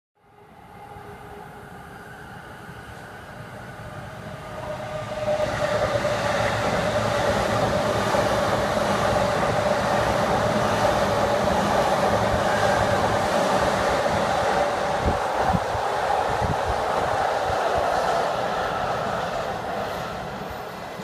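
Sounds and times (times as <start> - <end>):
electric train passing: 0.2 - 21.0.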